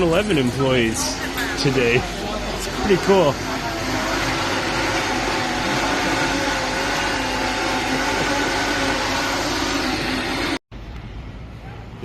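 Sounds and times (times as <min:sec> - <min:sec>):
steady machine noise: 0:00.0 - 0:10.6.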